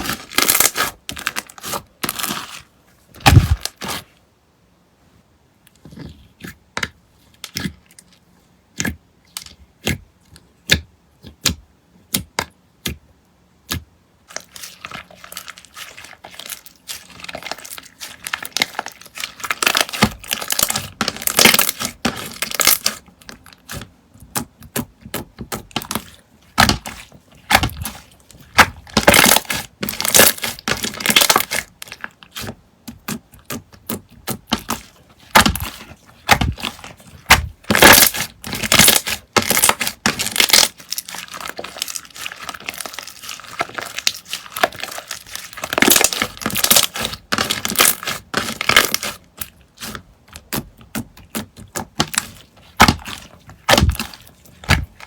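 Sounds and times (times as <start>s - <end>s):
crackling slime squish: 0.0s - 4.2s, 5.7s - 13.0s, 13.6s - 55.0s.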